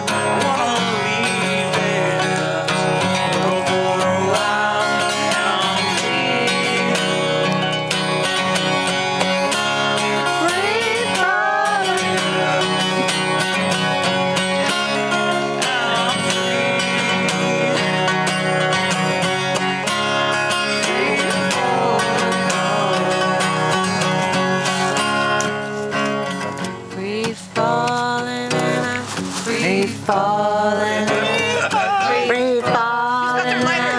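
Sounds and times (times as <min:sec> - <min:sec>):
man singing: 0:00.0 - 0:26.0, 0:26.7 - 0:33.9
acoustic guitar strumming: 0:00.0 - 0:33.9.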